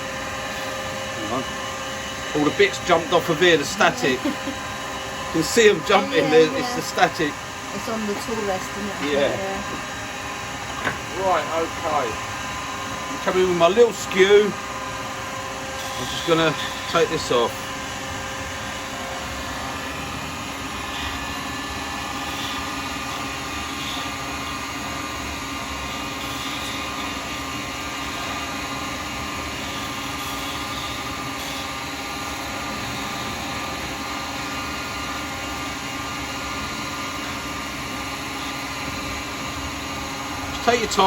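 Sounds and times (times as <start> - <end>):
wood lathe motor hum: 0.0 - 41.0.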